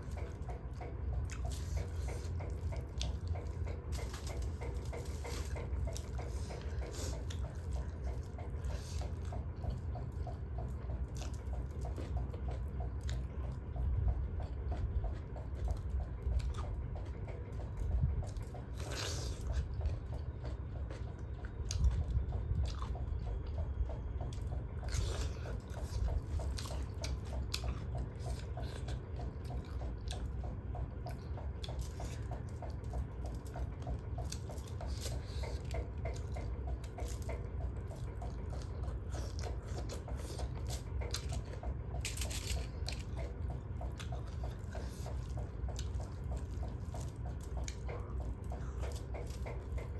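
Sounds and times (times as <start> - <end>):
person chewing food: 0.0 - 49.9.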